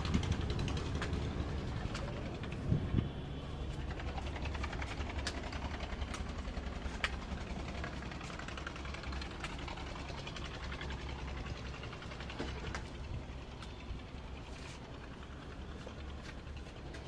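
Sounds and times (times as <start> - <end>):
engine running with ticking: 0.0 - 17.0.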